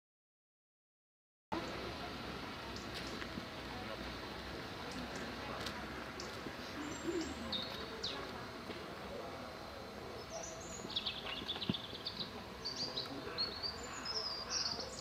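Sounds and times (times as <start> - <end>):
outdoor background hum: 1.5 - 15.0
birds chirping: 2.6 - 15.0.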